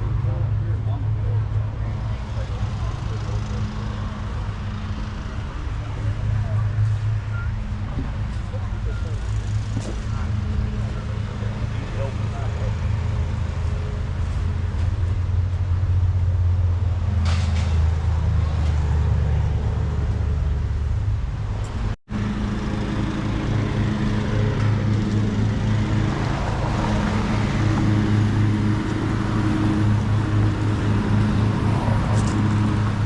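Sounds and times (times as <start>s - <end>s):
car engines idling: 0.0s - 33.0s.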